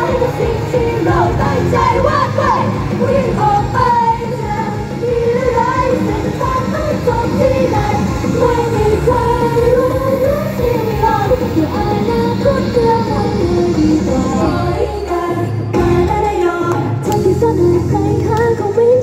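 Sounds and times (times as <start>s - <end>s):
pop backing track: 0.0s - 19.0s
women singing pop song: 0.0s - 19.0s.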